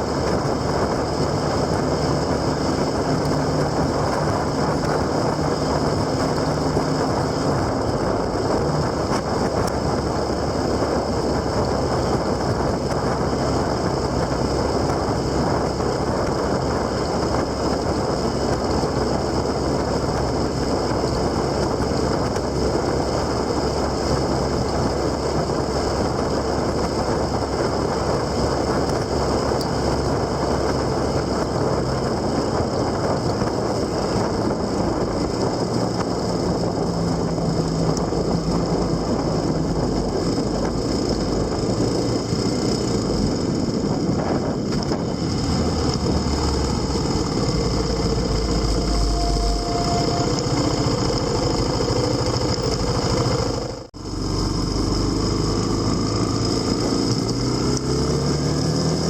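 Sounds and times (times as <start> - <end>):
low engine hum: 0.0 - 59.0
wind and road noise: 0.0 - 59.0.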